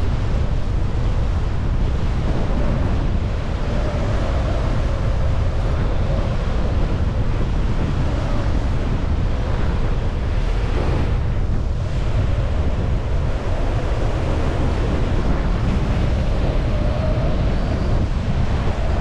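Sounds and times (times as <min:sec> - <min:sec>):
wind rushing: 0:00.0 - 0:19.0.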